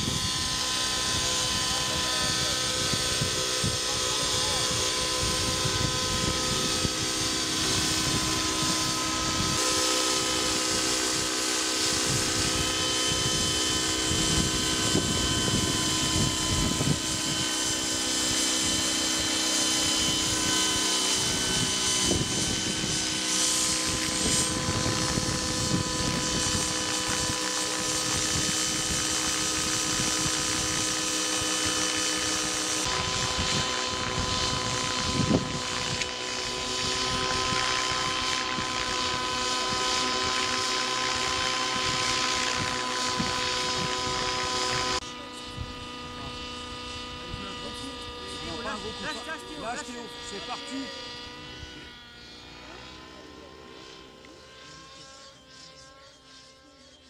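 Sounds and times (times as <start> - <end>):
wind rumble on microphone: 0.0 - 19.3, 19.9 - 49.1
model helicopter motor whine: 0.0 - 57.0.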